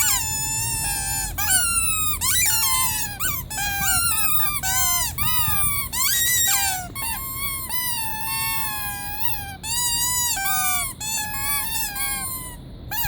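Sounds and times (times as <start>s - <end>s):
rubber squeaky toy squeaking: 0.0s - 13.0s.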